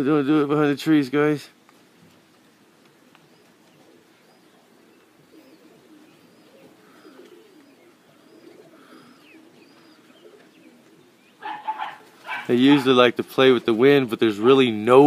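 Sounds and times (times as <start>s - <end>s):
pigeons cooing: 2.1s - 15.0s.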